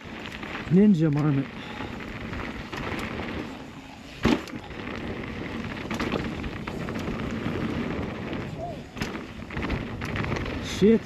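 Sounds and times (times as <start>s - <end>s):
bike tyres rumbling on dirt: 0.0s - 11.0s.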